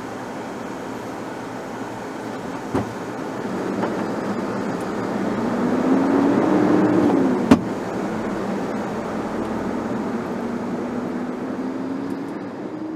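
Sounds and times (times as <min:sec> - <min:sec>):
car engine from inside cabin: 0:00.0 - 0:12.9
road noise: 0:00.0 - 0:12.9.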